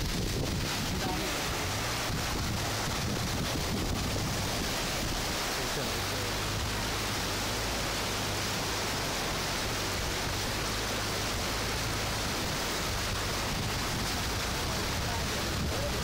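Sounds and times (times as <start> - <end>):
floodwater splashing against vehicle: 0.0 - 16.0
low vehicle hum: 0.0 - 16.0.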